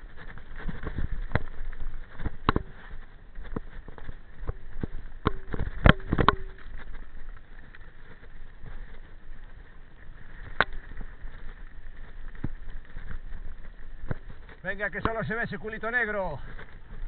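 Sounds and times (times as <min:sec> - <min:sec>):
bike knocking and clattering: 0:00.0 - 0:17.0
tyre and wind rush: 0:00.0 - 0:17.0.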